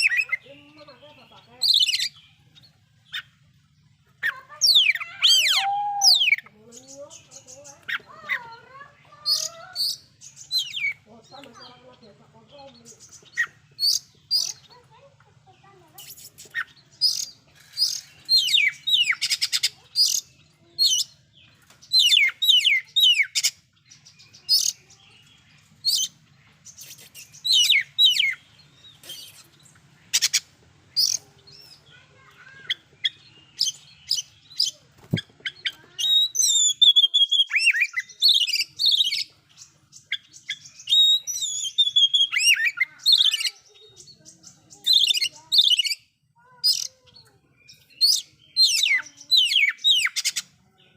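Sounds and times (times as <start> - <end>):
songbird singing loudly: 0.0 - 3.6, 4.2 - 14.8, 16.0 - 50.9.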